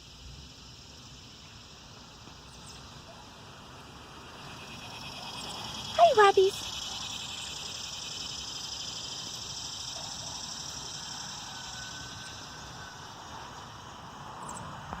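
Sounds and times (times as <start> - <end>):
high-pitched hiss: 0.0 - 3.0, 3.6 - 15.0.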